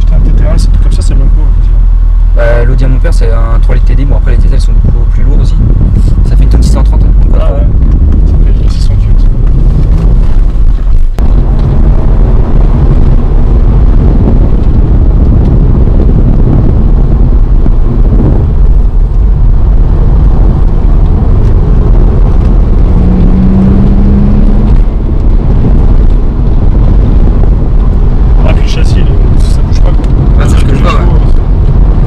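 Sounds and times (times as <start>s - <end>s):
car engine low rumble: 0.0s - 32.0s
wind buffeting microphone: 0.0s - 32.0s.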